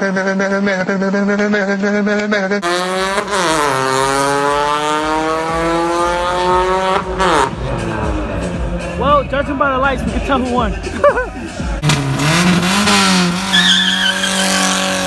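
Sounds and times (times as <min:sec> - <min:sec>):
car engine accelerating hard: 0:00.0 - 0:08.9, 0:11.8 - 0:15.0.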